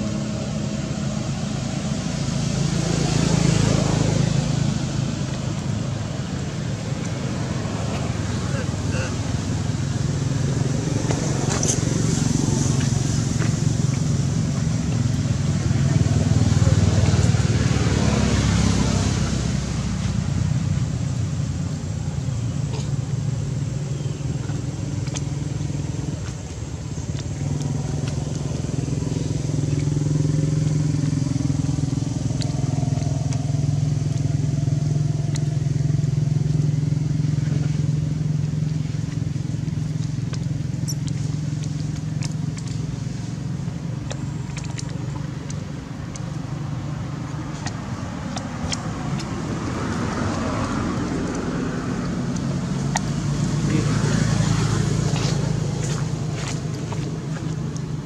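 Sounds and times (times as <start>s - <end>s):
motor engine humming: 0.0s - 58.0s.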